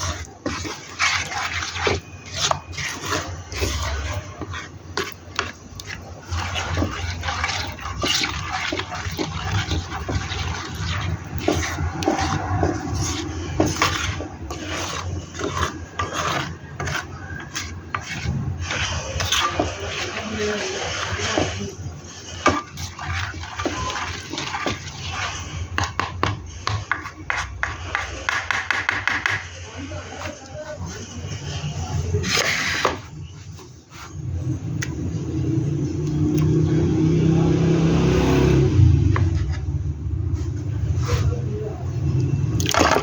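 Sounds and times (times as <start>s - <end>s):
food rubbing and scraping: 0.0s - 43.0s.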